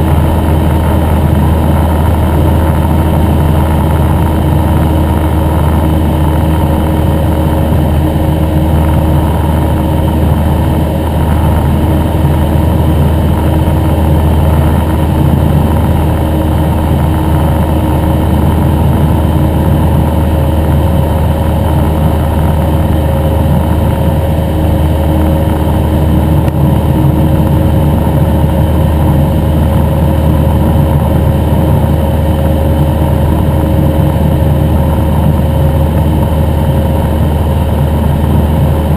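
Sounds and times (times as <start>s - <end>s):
airplane engine drone: 0.0s - 38.9s.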